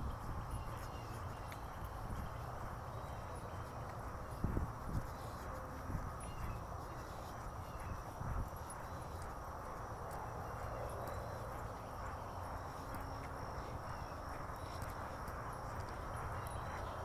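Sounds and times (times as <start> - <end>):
footsteps on asphalt: 0.0 - 17.0.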